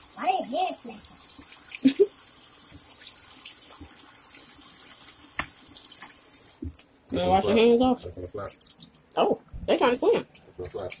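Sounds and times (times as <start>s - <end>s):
faucet water splashing: 0.0s - 7.4s, 8.0s - 9.2s, 10.3s - 11.0s.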